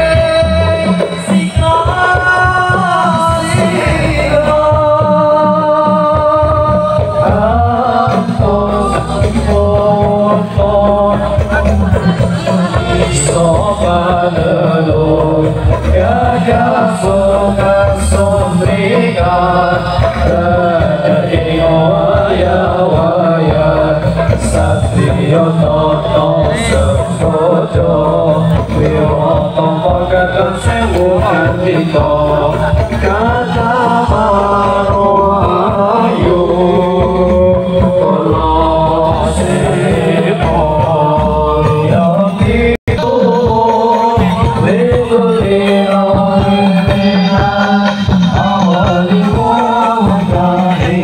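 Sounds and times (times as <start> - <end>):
men singing in unison: 0.0 - 51.0
steady drum beat: 0.0 - 51.0.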